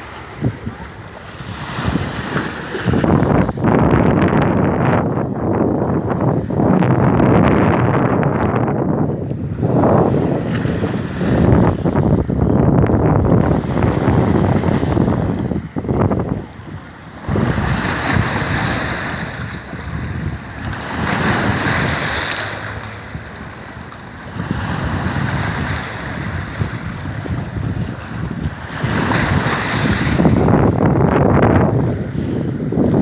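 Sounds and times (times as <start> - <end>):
waves breaking on shore: 0.0 - 33.0
wind buffeting microphone: 0.0 - 33.0.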